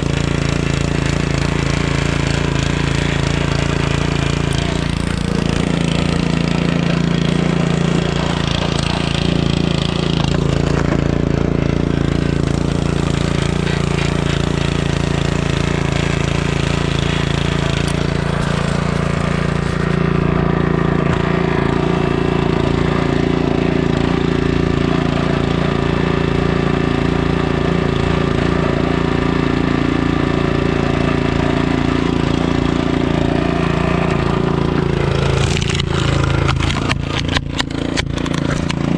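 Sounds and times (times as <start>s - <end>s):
log splitter engine running: 0.0s - 38.9s.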